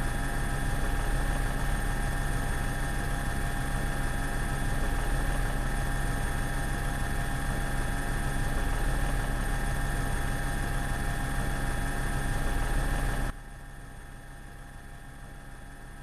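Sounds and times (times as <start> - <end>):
constant hums: 0.0 - 13.4
steady mechanical drone: 0.0 - 16.0.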